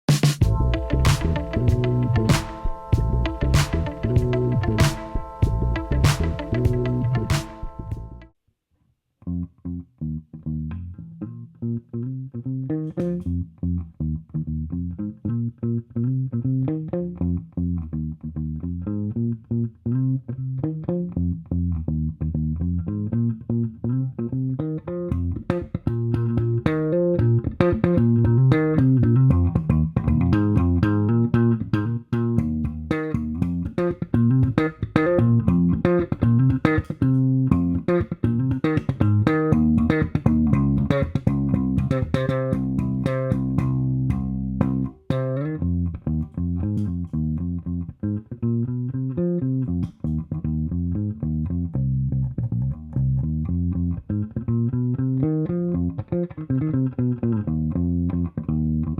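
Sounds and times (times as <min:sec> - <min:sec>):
plucked bass guitar notes: 0:00.4 - 0:08.3, 0:09.2 - 0:58.9.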